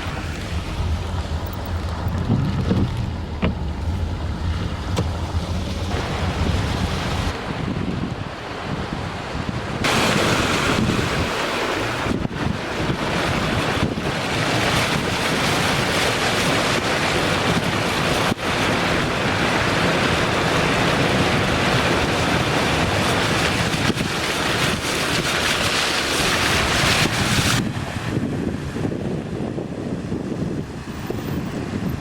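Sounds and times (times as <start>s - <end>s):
rainwater rushing: 0.0s - 29.4s
wind buffeting microphone: 0.0s - 32.0s.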